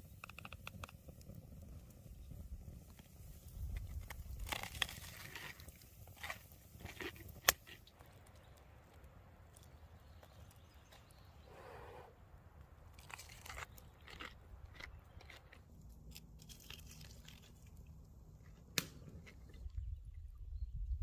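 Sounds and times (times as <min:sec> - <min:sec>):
faint crunches and clicks: 0:00.0 - 0:02.1, 0:02.8 - 0:11.1, 0:12.9 - 0:19.8.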